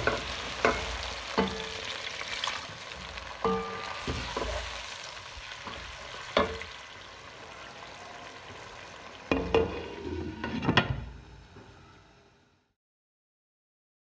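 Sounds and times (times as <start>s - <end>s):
chicken sizzling in a pot: 0.0s - 12.5s.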